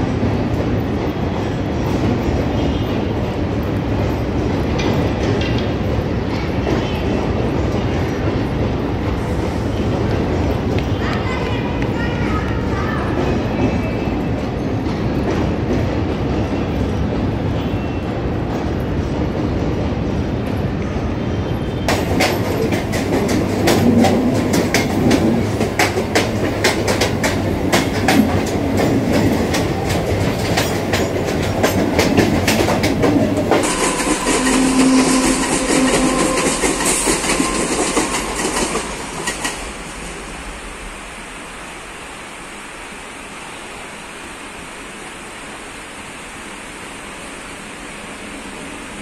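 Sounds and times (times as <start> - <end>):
electric train rumbling: 0.0 - 49.0.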